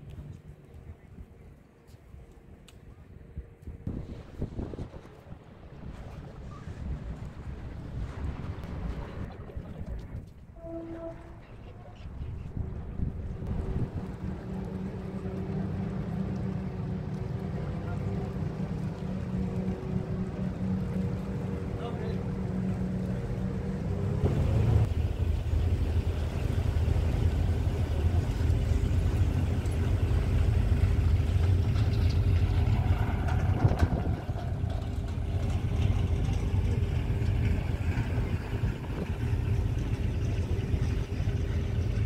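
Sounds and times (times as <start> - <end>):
ship engine rumbling: 0.0 - 42.0.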